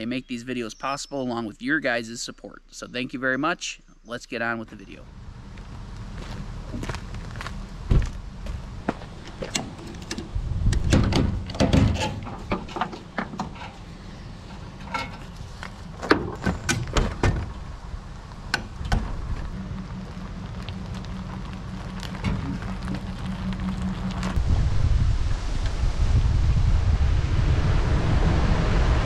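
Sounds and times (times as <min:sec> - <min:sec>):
low steady hum: 0:03.8 - 0:29.0.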